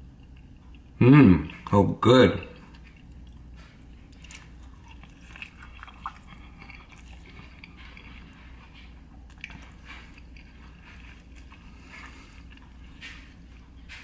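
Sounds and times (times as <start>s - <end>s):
person chewing food: 0.0s - 1.8s, 2.4s - 14.0s.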